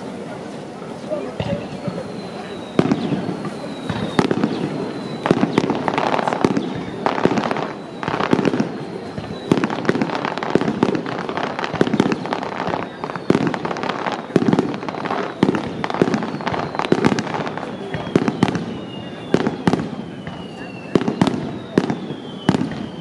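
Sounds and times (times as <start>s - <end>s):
fireworks crackling bursts: 0.0s - 23.0s
fireworks sharp bangs: 0.0s - 23.0s.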